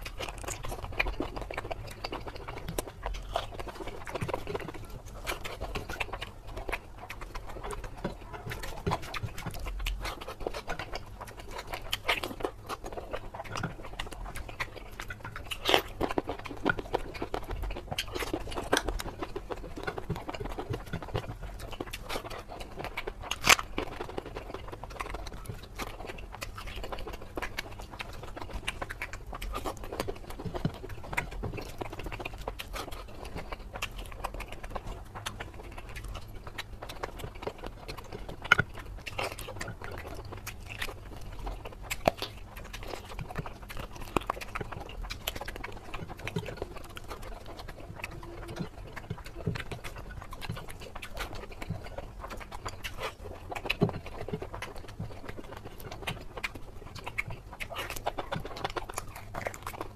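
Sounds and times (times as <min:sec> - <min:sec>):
wet chewing and mouth sounds: 0:00.0 - 0:59.9.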